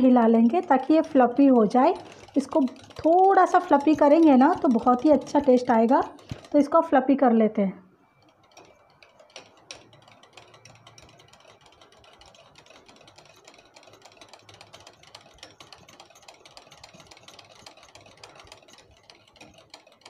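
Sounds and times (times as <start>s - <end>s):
wire whisk ticking against bowl: 0.0s - 7.2s, 8.1s - 20.0s.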